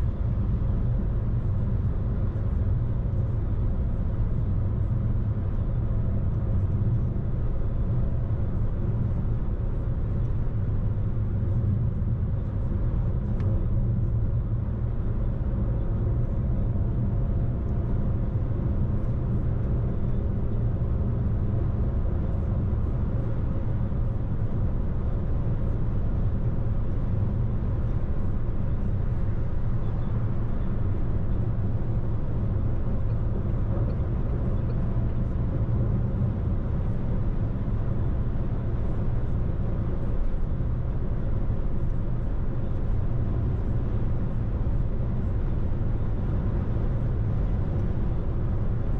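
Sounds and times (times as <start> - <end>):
car engine and tyre noise: 0.0 - 48.9.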